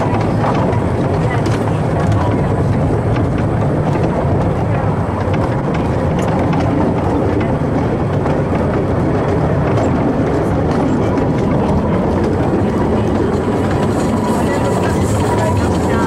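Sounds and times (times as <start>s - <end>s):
train carriages rumbling on rails: 0.0s - 16.0s.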